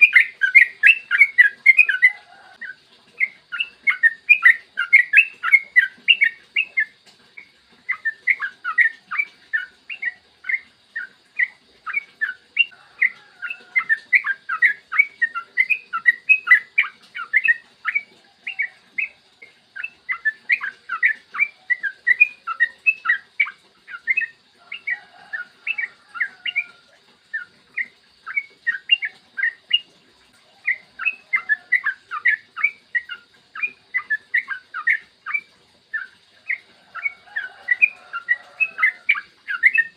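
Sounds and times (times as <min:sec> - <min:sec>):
bird song bubbly chirping: 0:00.0 - 0:39.9.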